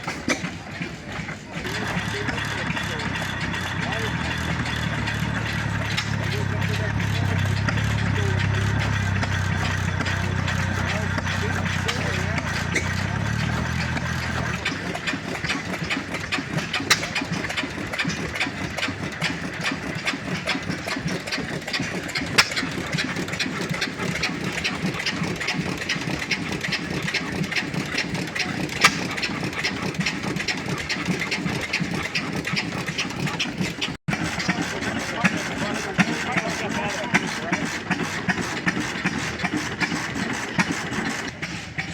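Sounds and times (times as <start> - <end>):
old gas engines running: 0.0 - 41.9.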